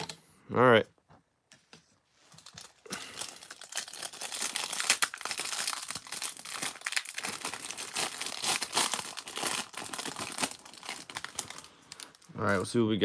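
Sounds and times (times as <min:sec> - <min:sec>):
plastic wrapper crinkling: 0:02.2 - 0:12.9.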